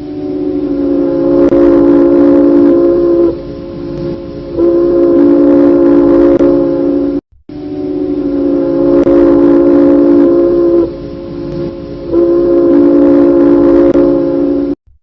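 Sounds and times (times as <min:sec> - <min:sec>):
alert alarm horn chord: 0:00.0 - 0:14.8.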